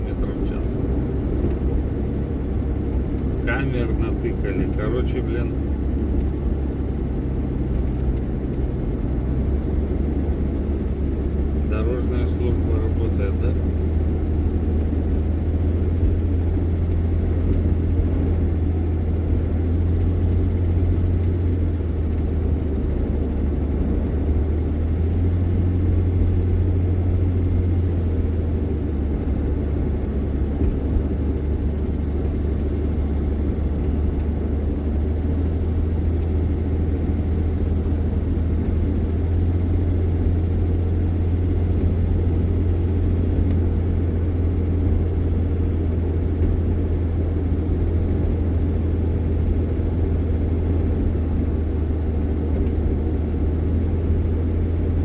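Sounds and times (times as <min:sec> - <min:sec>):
vehicle engine and road drone: 0:00.0 - 0:55.0.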